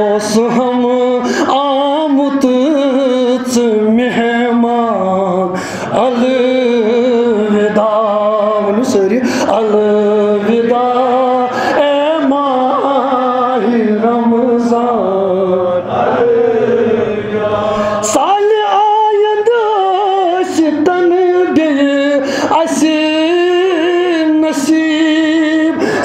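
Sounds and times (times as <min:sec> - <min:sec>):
man chanting into a microphone: 0:00.0 - 0:15.9, 0:17.0 - 0:26.0.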